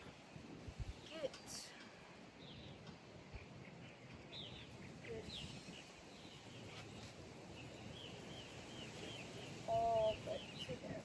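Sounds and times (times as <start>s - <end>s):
birds chirping: 0.0s - 11.0s
low rumble of outdoor noise: 0.0s - 11.0s.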